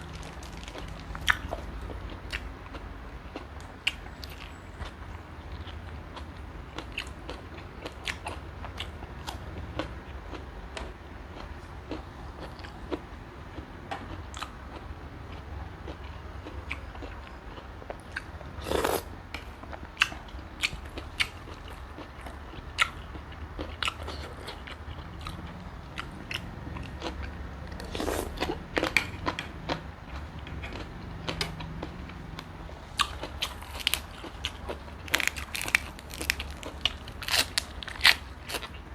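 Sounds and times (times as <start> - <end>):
chewing crunchy prawn shells: 0.0 - 38.9.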